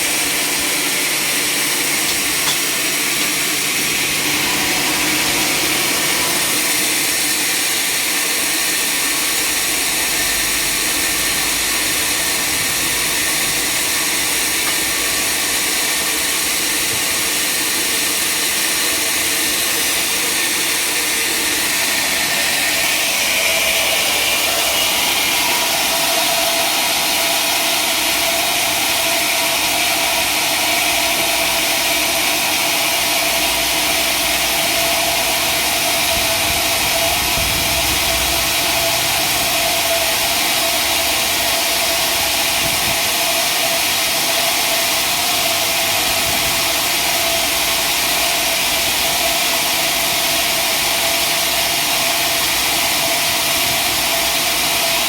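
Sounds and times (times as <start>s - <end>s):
sawmill engine drone: 0.0s - 55.0s.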